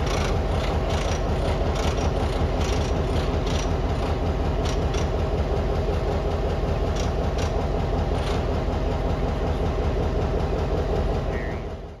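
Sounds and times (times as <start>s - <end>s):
locomotive engines idling: 0.0s - 12.0s.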